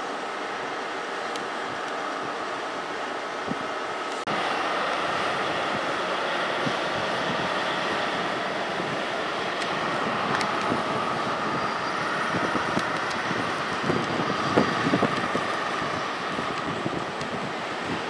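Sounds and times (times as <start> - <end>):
train engine hum: 0.0 - 18.0.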